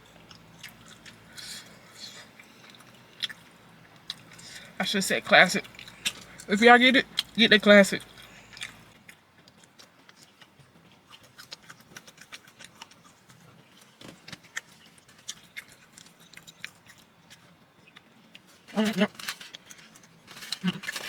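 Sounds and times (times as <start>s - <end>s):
eating clicks and crackles: 0.0s - 21.0s.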